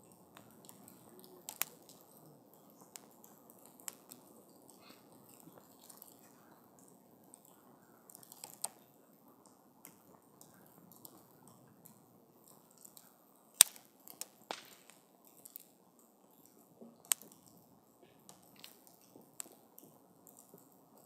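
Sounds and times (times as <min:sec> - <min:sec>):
campfire crackling and popping: 0:00.0 - 0:21.0
rustle of flame: 0:00.0 - 0:21.0.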